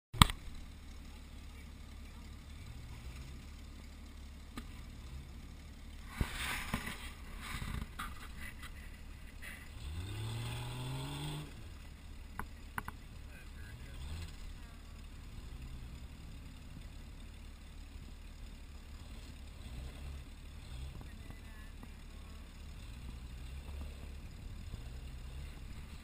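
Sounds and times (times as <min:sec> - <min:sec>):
car engine running at low revs: 0:00.2 - 0:26.0.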